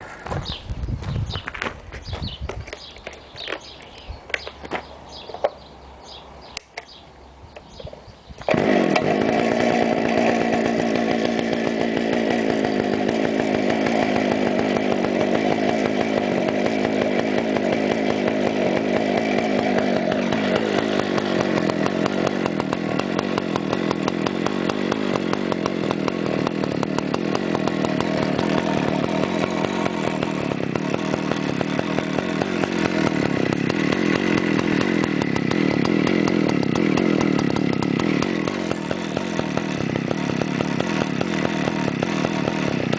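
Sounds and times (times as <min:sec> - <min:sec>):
chainsaw engine running: 0:00.0 - 0:06.2, 0:07.7 - 0:42.9.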